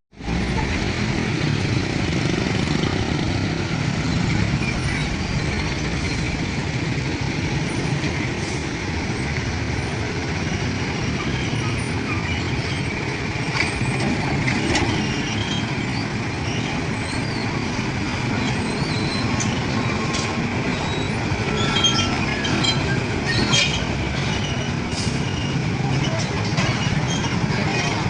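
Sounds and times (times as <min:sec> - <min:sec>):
train wheels rumbling on rails: 0:00.2 - 0:28.0.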